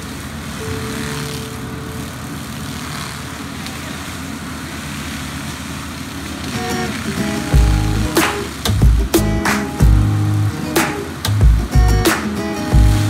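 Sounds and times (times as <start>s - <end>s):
diesel engine running: 0.0s - 10.6s.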